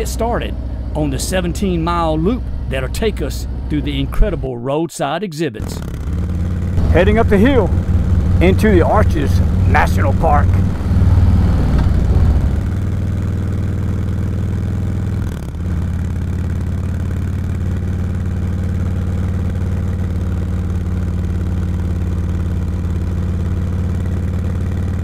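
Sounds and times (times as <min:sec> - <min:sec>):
motorcycle engine running: 0:00.0 - 0:04.3, 0:05.6 - 0:25.0.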